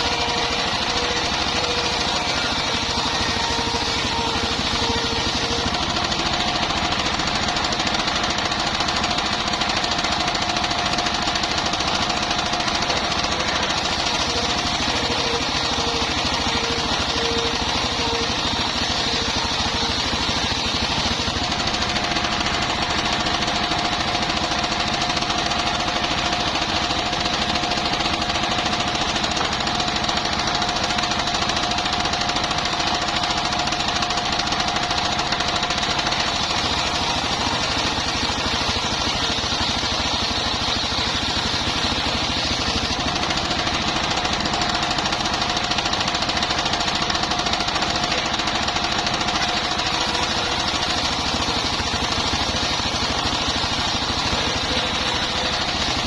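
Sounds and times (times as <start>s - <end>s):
circular saw cutting timber: 0.0s - 56.0s.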